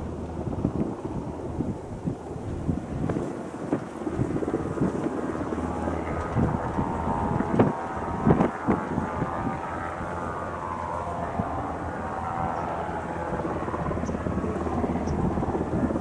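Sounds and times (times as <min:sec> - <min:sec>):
propeller aircraft engine droning: 0:00.0 - 0:16.0
wind buffeting microphone: 0:00.0 - 0:16.0.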